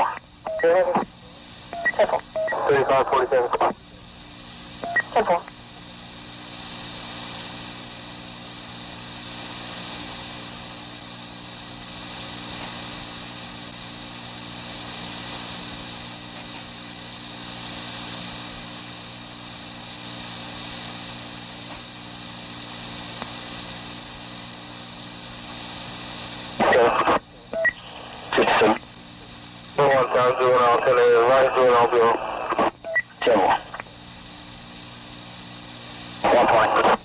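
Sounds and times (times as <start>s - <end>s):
tape hiss and electrical hum: 0.0s - 37.0s.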